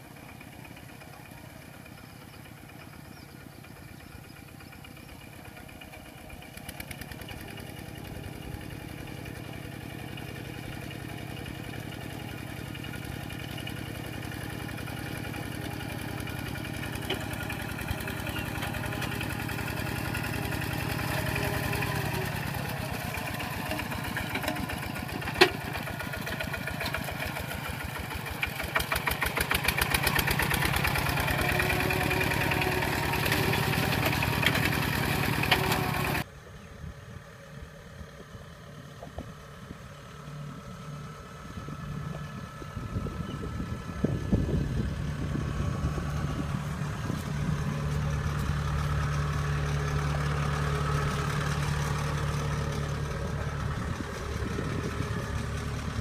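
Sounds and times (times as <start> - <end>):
combine harvester engine idling: 0.0 - 56.0
diesel tractor engine under load: 0.0 - 56.0.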